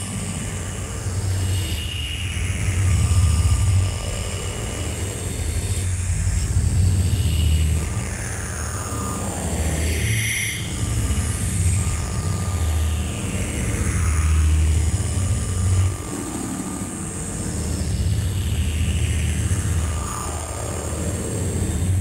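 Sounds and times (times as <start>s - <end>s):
pulsing low electronic rumble: 0.0s - 22.0s.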